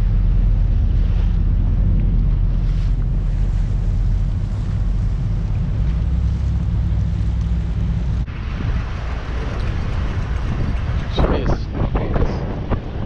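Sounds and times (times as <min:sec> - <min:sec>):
boat engine droning: 0:00.0 - 0:13.0
wind buffeting microphone: 0:00.0 - 0:13.0.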